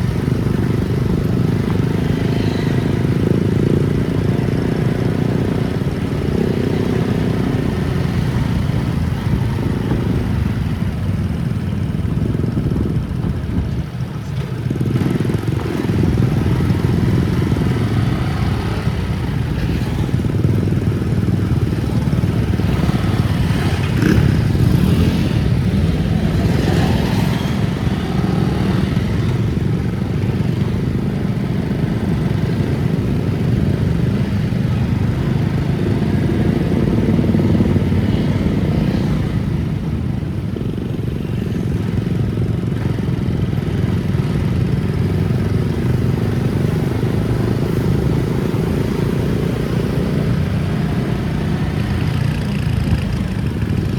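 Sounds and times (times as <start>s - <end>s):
vehicle engine and road noise: 0.0s - 53.9s.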